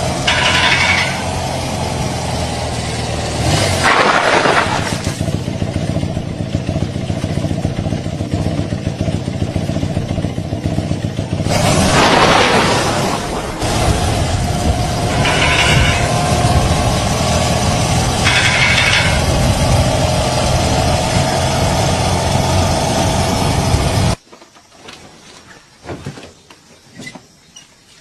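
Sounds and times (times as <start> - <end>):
vehicle engine running unevenly: 0.0 - 24.2.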